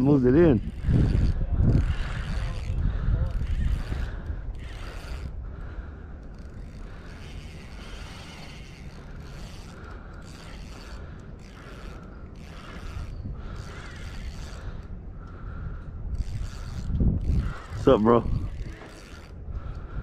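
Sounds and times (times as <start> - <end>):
fishing reel gears whirring: 0.0 - 20.0.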